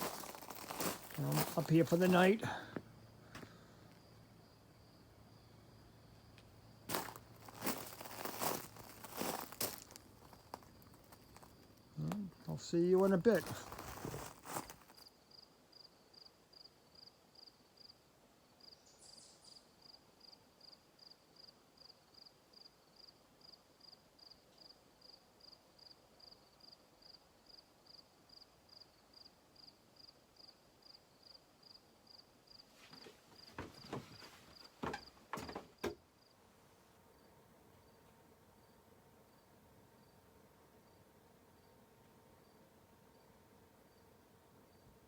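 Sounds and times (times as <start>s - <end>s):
cricket chirping: 0.0s - 32.6s, 37.1s - 45.0s.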